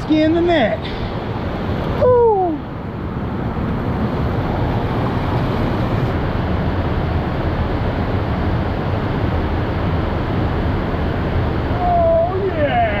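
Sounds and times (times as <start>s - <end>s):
river water roaring through dam: 0.0s - 13.0s.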